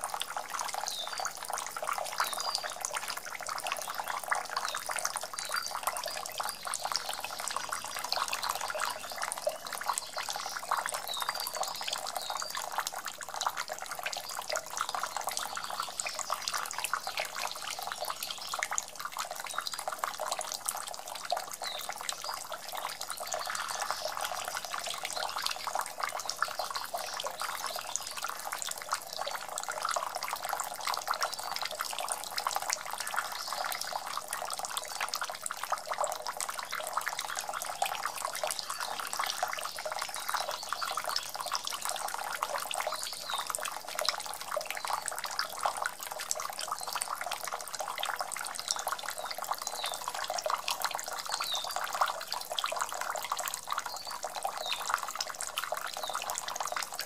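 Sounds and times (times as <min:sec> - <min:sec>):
fountain water splashing on stones: 0:00.0 - 0:57.0.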